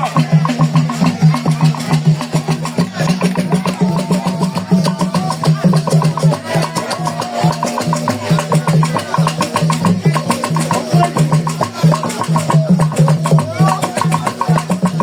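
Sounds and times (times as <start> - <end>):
music with percussion beat: 0.0 - 15.0.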